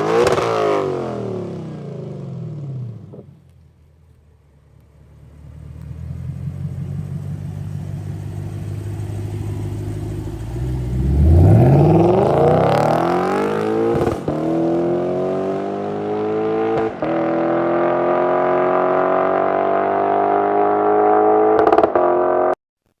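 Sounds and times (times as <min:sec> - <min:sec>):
car engine accelerating: 0:00.0 - 0:22.6.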